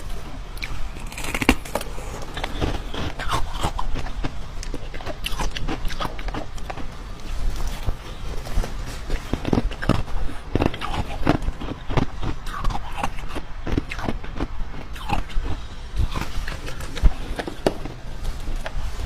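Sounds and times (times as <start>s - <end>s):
crunching and chewing: 0.0s - 19.0s.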